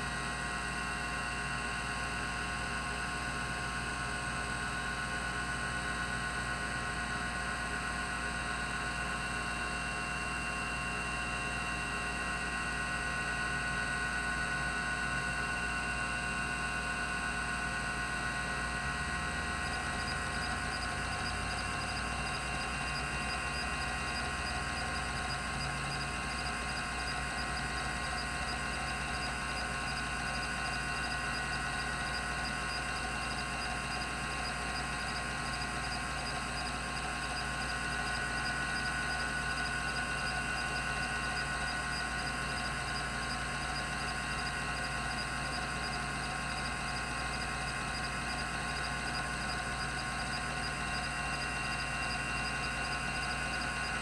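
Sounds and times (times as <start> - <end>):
hard drive humming and whining: 0.0 - 54.0.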